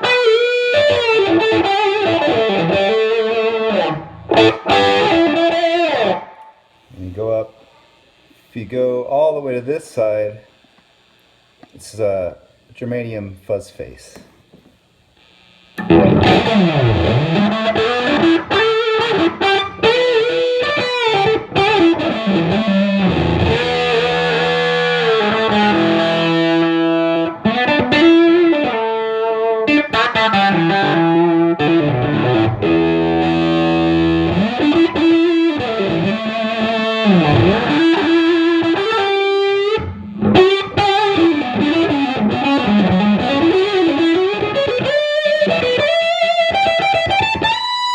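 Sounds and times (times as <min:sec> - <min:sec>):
distorted fuzzy electric guitar: 0:00.0 - 0:08.8, 0:15.2 - 0:47.9.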